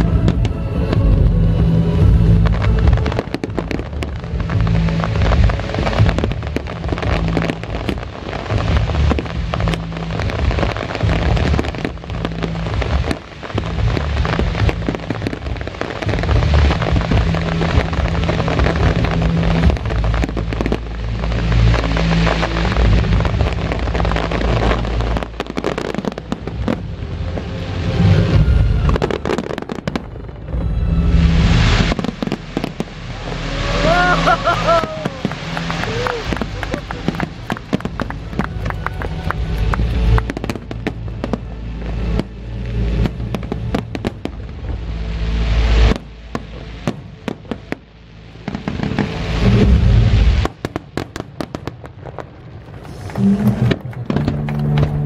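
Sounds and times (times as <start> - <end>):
music playing: 0.0 - 50.5, 52.8 - 55.0
fireworks bursting: 0.0 - 55.0.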